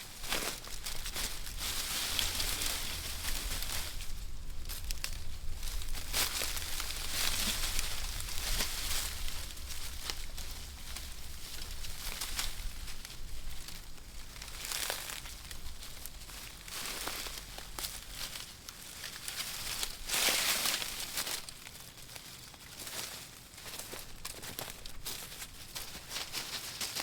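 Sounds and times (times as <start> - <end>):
dry tinder crinkling and rustling: 0.0 - 27.0.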